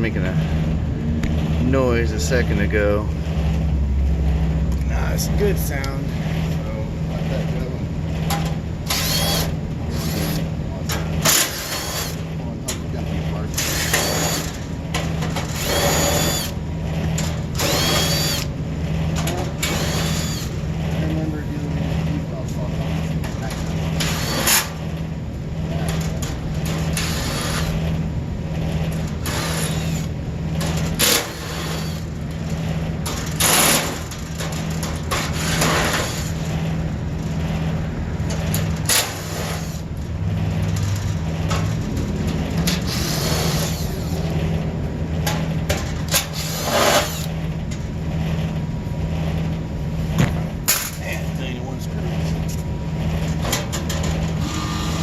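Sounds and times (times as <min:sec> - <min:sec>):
condensing unit humming: 0:00.0 - 0:55.0.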